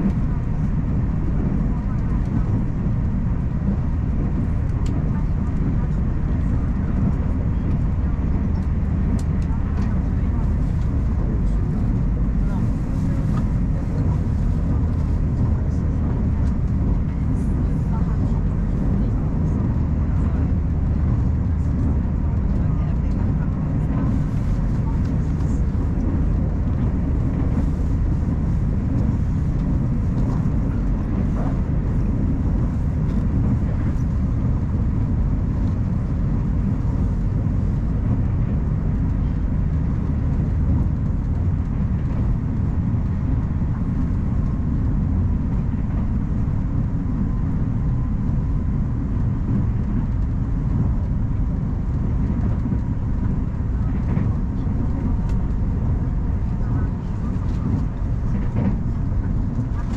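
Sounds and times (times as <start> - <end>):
faint train whine: 0.0 - 59.9
train wheels rumbling on rail: 0.0 - 59.9.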